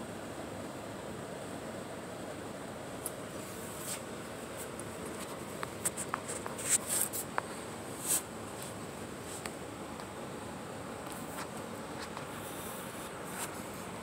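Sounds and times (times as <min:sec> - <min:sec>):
background hiss: 0:00.0 - 0:14.0
faint high whine: 0:00.0 - 0:14.0.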